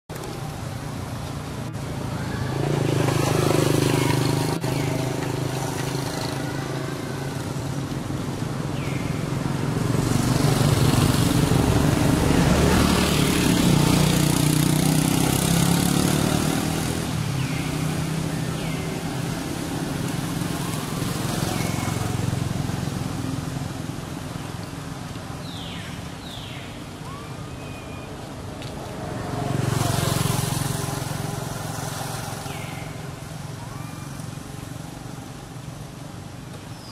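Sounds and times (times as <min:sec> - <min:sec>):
vehicle engines passing: 0:00.1 - 0:36.9.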